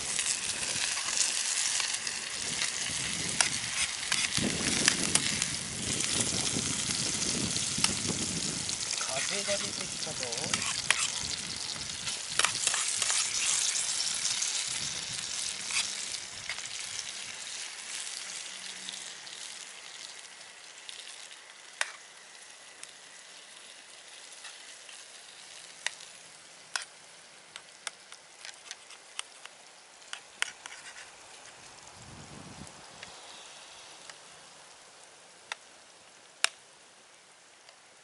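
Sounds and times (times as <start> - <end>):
oil popping and crackling: 0.0 - 31.9
food sizzling in a pan: 0.0 - 38.0.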